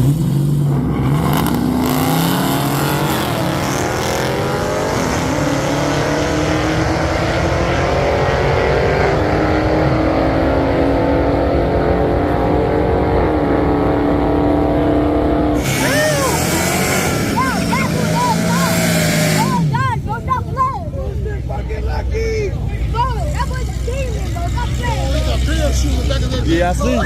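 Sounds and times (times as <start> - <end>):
cars drag racing at full throttle: 0.0 - 27.0.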